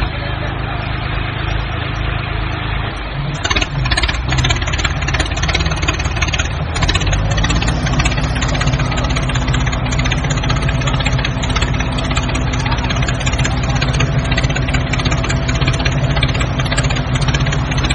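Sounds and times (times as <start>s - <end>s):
construction vehicle engine idling: 0.0s - 17.9s
rapid clatter: 1.4s - 17.9s.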